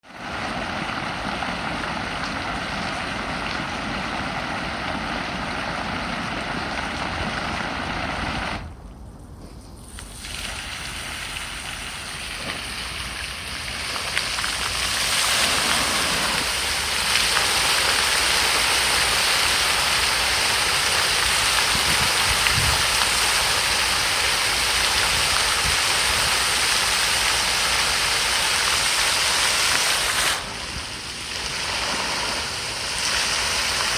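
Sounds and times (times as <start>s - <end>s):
water fountain spraying: 0.0s - 33.9s.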